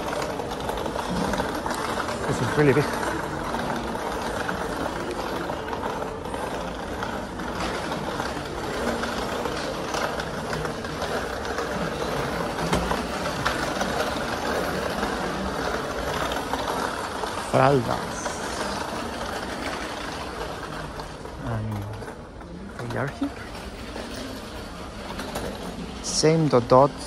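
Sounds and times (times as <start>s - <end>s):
shopping cart rattling: 0.0s - 27.0s
store background noise: 0.0s - 27.0s.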